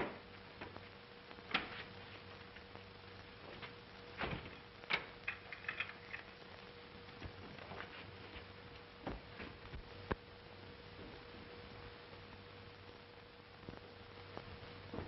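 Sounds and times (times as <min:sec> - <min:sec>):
film soundtrack hum and hiss: 0:00.0 - 0:15.0.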